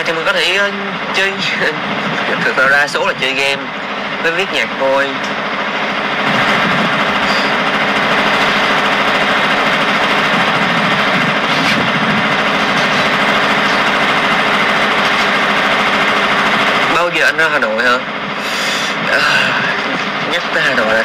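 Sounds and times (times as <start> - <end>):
air conditioner hum: 0.0 - 21.0.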